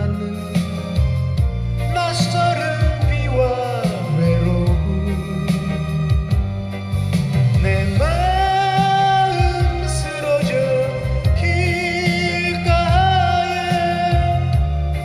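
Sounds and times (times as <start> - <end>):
man singing into a microphone: 0.0 - 1.2, 1.8 - 6.4, 7.5 - 15.0
karaoke backing track: 0.0 - 15.0.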